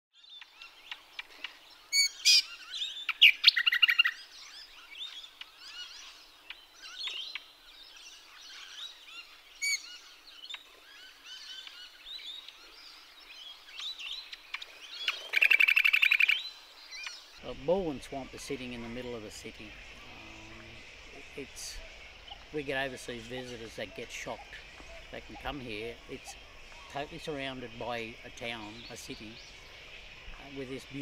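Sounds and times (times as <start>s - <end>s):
songbirds chirping: 0.1s - 31.0s
bird trills: 0.2s - 31.0s.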